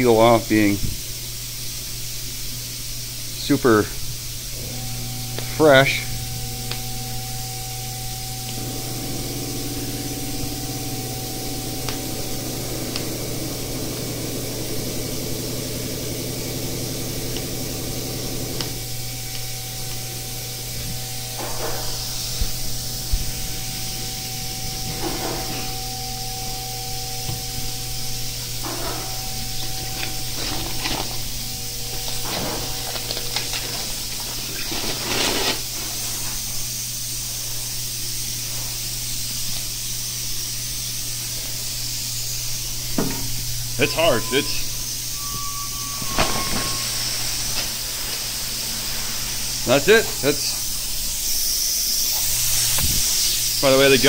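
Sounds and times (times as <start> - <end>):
low hum of shop machinery: 0.0 - 54.0
steady hiss: 0.0 - 54.0.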